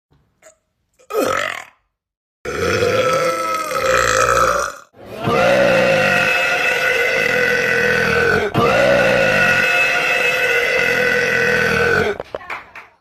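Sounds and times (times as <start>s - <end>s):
person burping: 0.4s - 12.2s.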